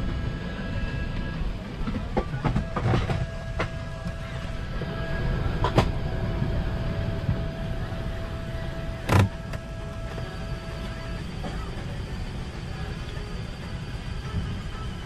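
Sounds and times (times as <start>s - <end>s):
cabin air noise: 0.0s - 15.0s.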